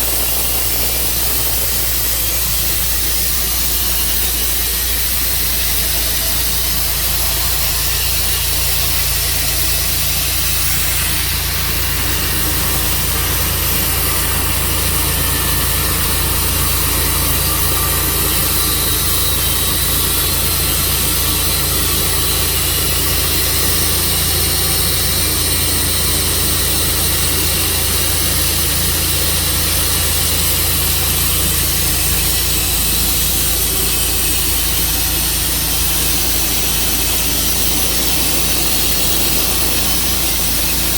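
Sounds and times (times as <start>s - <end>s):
saw cutting through log: 0.0s - 40.9s
sawmill engine humming: 0.0s - 40.9s.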